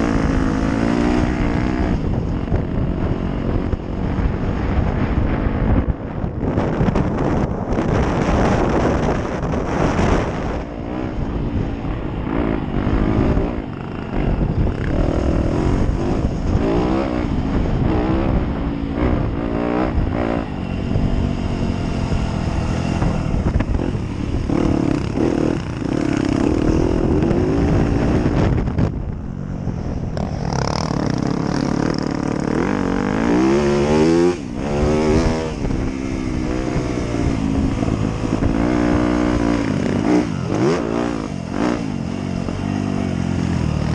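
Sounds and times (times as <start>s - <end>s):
dirt bike engine revving: 0.0s - 28.9s, 30.0s - 43.9s.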